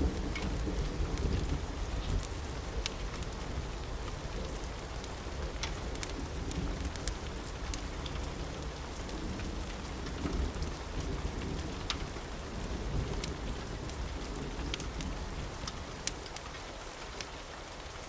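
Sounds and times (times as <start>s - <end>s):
low rolling thunder: 0.0s - 15.6s
rain falling: 0.0s - 18.0s.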